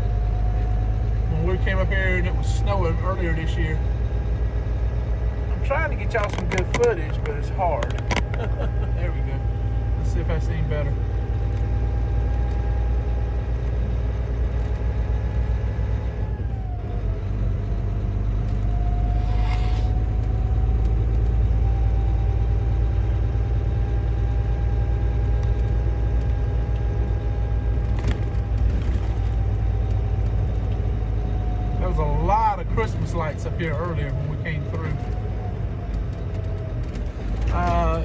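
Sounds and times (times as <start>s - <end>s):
truck diesel engine rumble: 0.0s - 38.0s.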